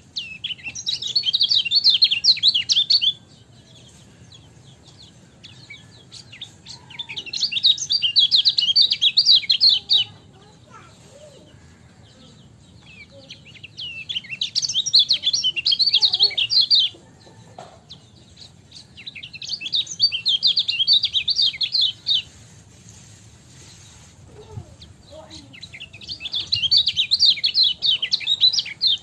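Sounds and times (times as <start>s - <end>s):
bird chirping twitters: 0.0s - 22.7s, 23.5s - 29.0s.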